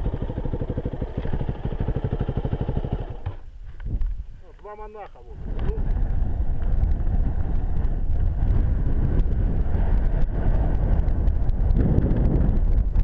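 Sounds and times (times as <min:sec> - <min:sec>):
motorcycle engine rumble: 0:00.0 - 0:13.0.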